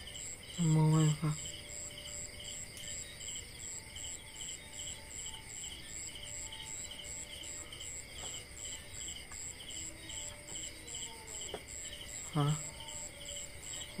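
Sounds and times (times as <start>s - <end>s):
high clipped cricket chirp: 0.0s - 14.0s
lower trilled cricket chirp: 0.0s - 14.0s.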